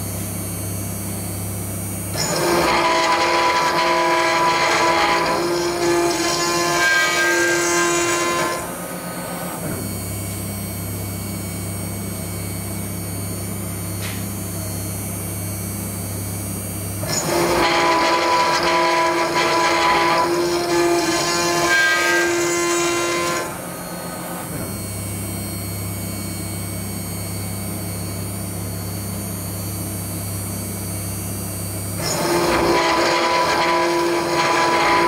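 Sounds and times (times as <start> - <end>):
router milling steel: 0.0 - 35.0.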